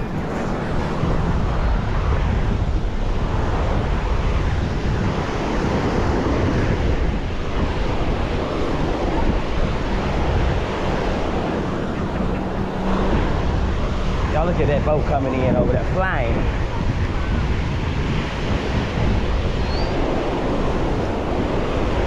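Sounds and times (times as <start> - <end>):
surf washing onto beach: 0.0 - 22.0
wind buffeting microphone: 0.0 - 22.0.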